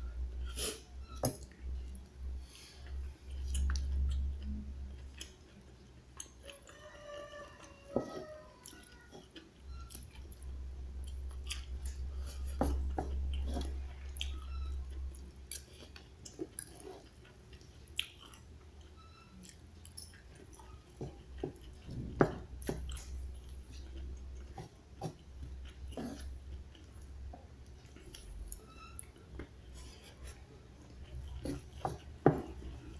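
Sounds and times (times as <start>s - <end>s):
person chewing food: 0.4s - 32.9s.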